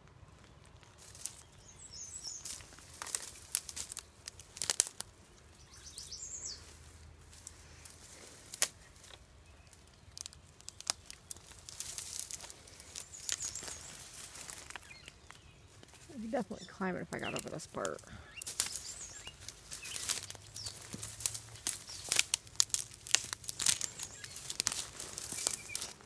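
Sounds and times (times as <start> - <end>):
dead leaves crackling: 0.0 - 26.0
footsteps through dry undergrowth: 0.0 - 26.0
twigs snapping: 0.4 - 16.1, 17.2 - 26.0.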